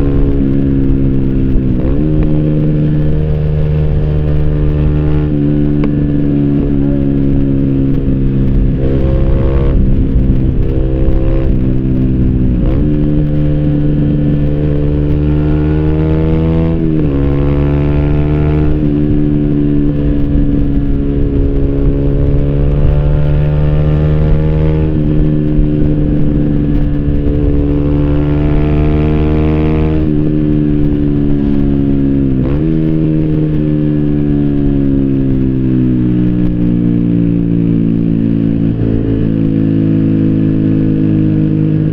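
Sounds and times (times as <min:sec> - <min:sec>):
motorcycle engine under way: 0:00.0 - 0:41.9.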